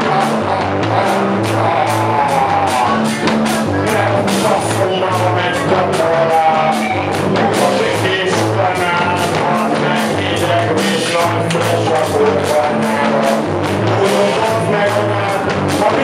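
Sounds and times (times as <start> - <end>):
drum kit beat: 0.0 - 16.0
electric guitar: 0.0 - 16.0
man singing into a microphone: 0.0 - 16.0.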